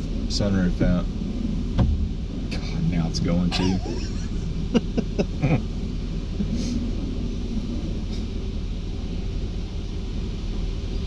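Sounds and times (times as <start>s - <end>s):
car wash machinery rumble: 0.0s - 11.0s.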